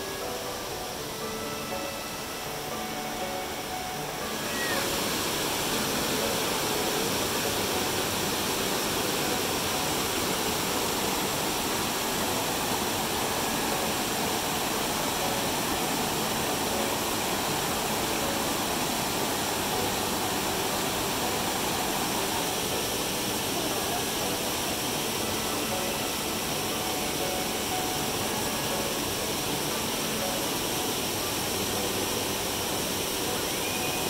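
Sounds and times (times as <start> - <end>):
waterfalls cascading over rocks: 0.0 - 34.0.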